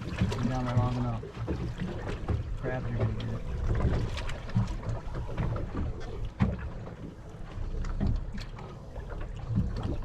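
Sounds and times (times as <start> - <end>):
water slapping boat hull: 0.0 - 10.0.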